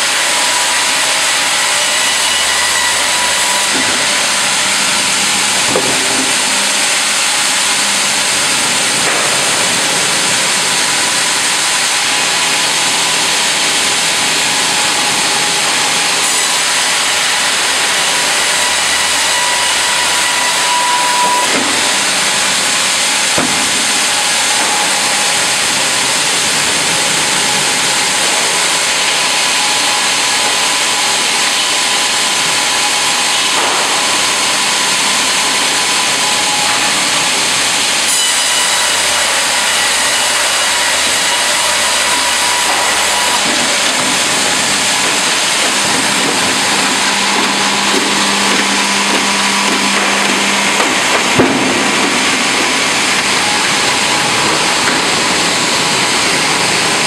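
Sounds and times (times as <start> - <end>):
band saw sawing timber: 0.0 - 57.0.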